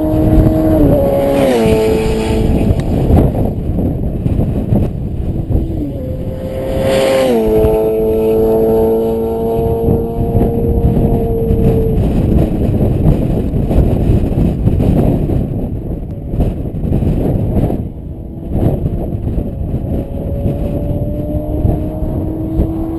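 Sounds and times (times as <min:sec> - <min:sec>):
dense low rush: 0:00.0 - 0:22.9
motorcycle passing at speed: 0:00.0 - 0:22.9.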